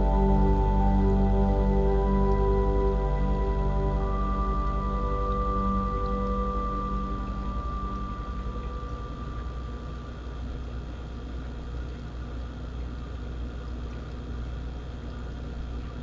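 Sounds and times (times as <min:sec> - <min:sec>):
aquarium filter hum: 0:00.0 - 0:16.0.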